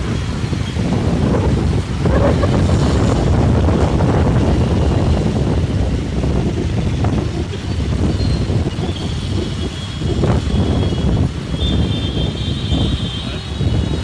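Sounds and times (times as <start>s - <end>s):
motorcycles running: 0.0s - 14.0s
road traffic: 0.0s - 14.0s
wind buffeting microphone: 0.0s - 14.0s.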